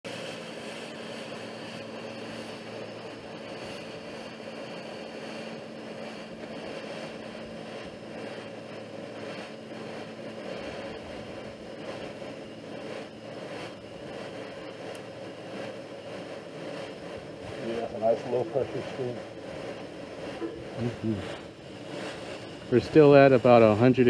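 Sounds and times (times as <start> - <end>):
hiss of venting vapor: 0.1 - 24.0
low steady hum: 0.1 - 24.0.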